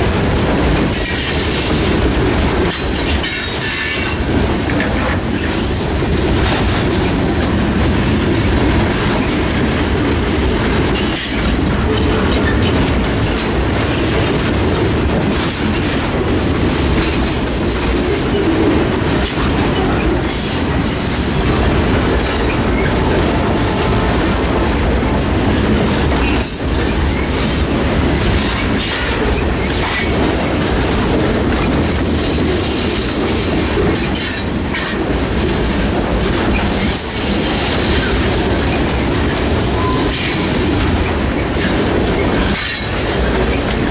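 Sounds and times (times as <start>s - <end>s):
freight train wheels rumbling on rail: 0.0s - 43.9s
train cars rattling and clanking: 0.0s - 43.9s.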